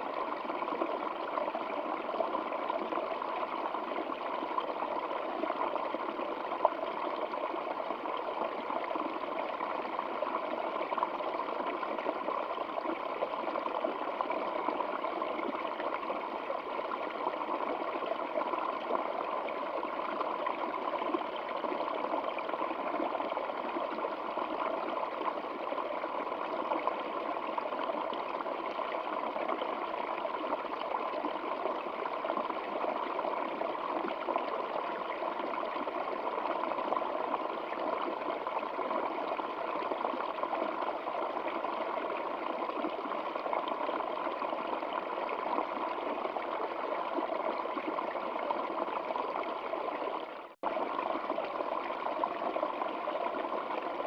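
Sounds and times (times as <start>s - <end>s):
stream water trickling: 0.0s - 54.0s.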